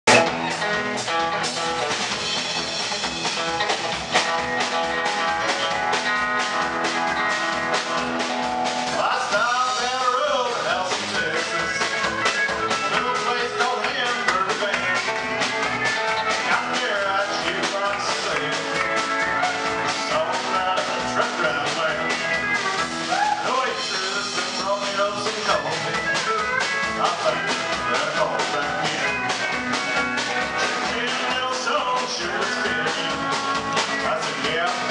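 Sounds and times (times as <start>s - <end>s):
bending sliding guitar notes: 0.1s - 34.9s
live country band playing: 0.1s - 34.9s
steady drum beat: 0.1s - 34.9s.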